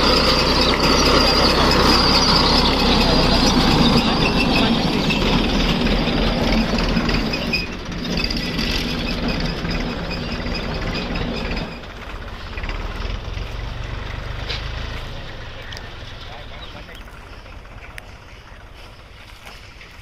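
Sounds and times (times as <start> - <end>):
harvester machine running with whine: 0.0 - 20.0.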